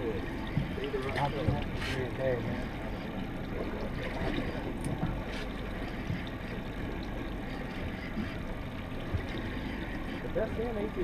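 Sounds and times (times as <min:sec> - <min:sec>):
outboard motors running: 0:00.0 - 0:11.0
water washing around hull: 0:00.0 - 0:11.0.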